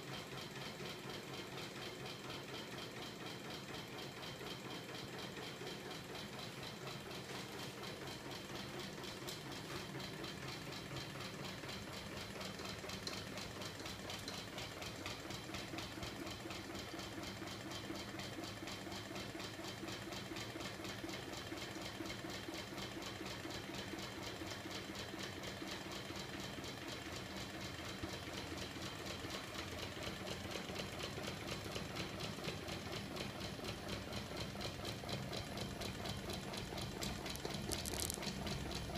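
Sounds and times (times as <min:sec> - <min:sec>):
fast mechanical ticking: 0:00.0 - 0:27.8, 0:29.6 - 0:38.9.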